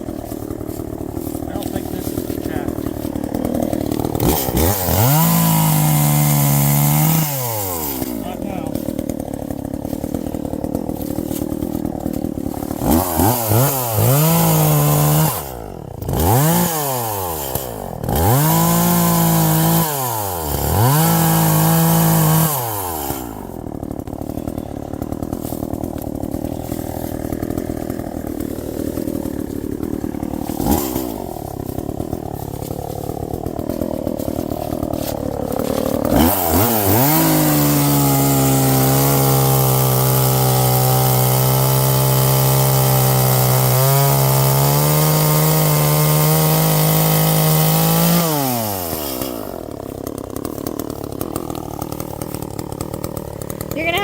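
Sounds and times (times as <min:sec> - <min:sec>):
chainsaw idling: 0:00.0 - 0:54.0
chainsaw revving: 0:00.0 - 0:54.0.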